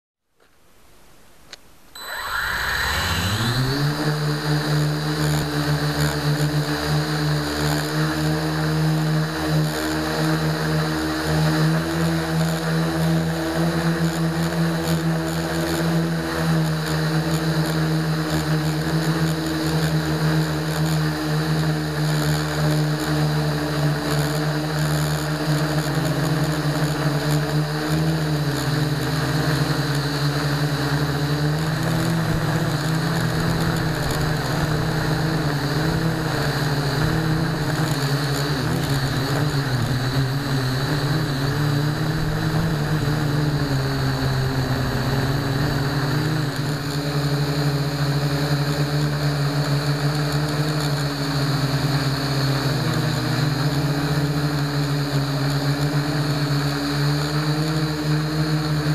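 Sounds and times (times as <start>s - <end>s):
quadcopter motors buzzing: 2.0s - 58.9s.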